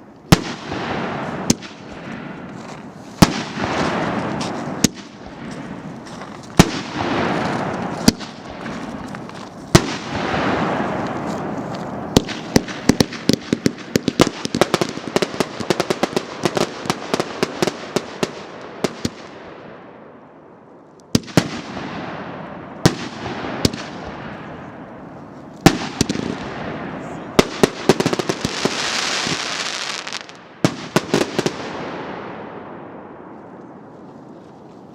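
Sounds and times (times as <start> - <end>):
fireworks bangs: 0.0 - 19.8, 21.1 - 33.4
hissing crackle of fireworks: 0.0 - 19.8, 21.1 - 34.6.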